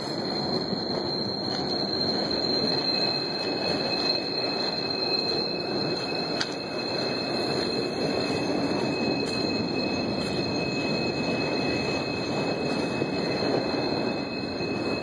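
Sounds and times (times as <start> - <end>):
train wheels rolling on rail: 0.0 - 15.0
wheel squeal: 0.0 - 15.0.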